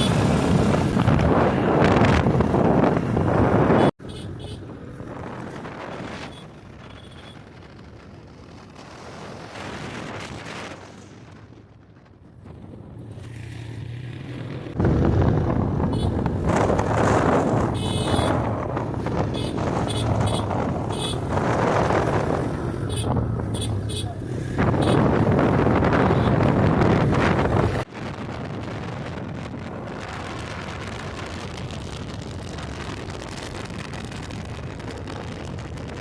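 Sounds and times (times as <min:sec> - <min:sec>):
wind rushing over microphone: 0:00.0 - 0:04.0, 0:04.6 - 0:36.0
motorcycle engine drone: 0:00.0 - 0:36.0.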